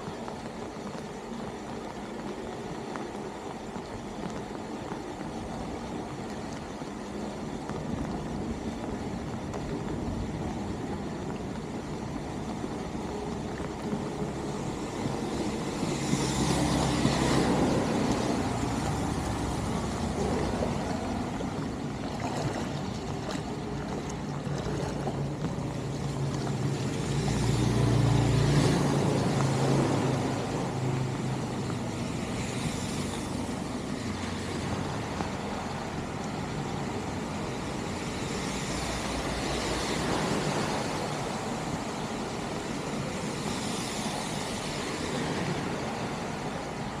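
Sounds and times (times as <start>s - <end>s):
rain and running water hiss: 0.0s - 47.0s
tyres swishing through water: 0.0s - 47.0s.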